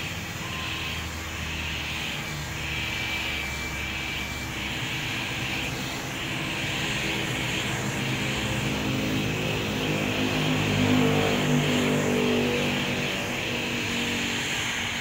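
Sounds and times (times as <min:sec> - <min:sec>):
heat gun blowing air: 0:00.0 - 0:15.0
low drone: 0:00.0 - 0:15.0.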